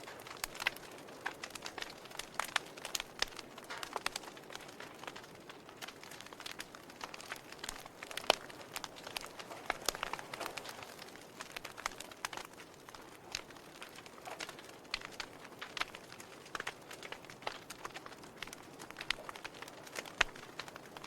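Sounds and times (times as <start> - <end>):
soft hiss of burning logs: 0.0 - 21.0
wood fire crackling and popping: 0.0 - 21.0.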